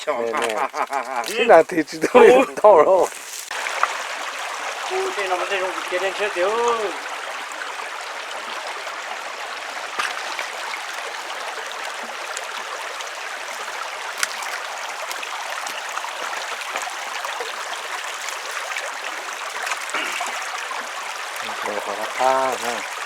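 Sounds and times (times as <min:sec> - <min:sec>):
flowing stream water: 0:00.0 - 0:23.0.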